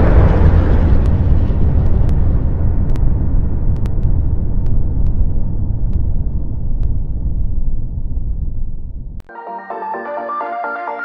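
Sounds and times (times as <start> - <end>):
deep rumble of explosions: 0.0 - 9.2.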